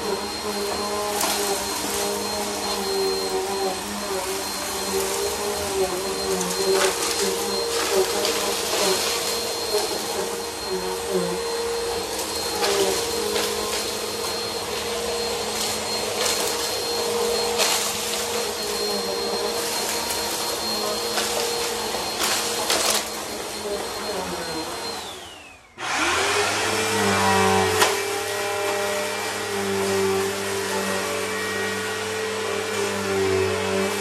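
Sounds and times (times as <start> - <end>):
upright vacuum running: 0.0 - 34.0
vacuum motor winding down: 0.0 - 34.0.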